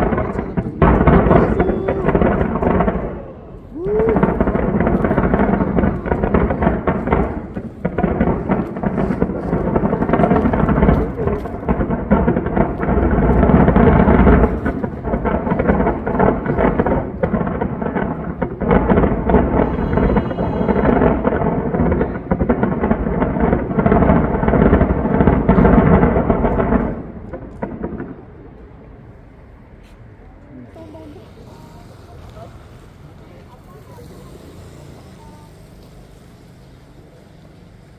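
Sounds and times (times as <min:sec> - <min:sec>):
fireworks bursting: 0:00.0 - 0:37.9.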